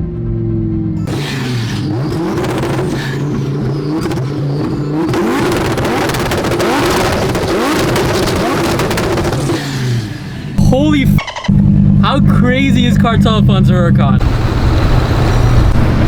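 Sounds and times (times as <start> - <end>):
sports car engine revving: 0.0 - 16.0
exhaust popping and crackling: 1.0 - 16.0.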